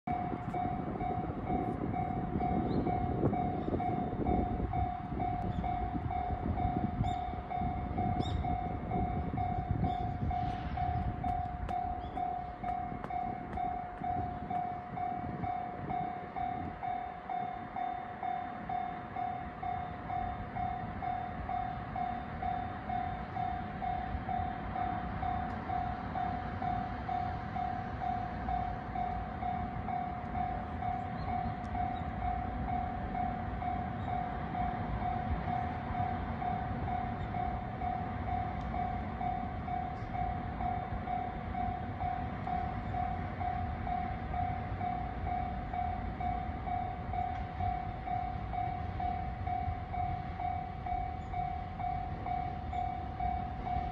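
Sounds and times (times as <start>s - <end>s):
level crossing alarm dinging: 0.1s - 53.9s.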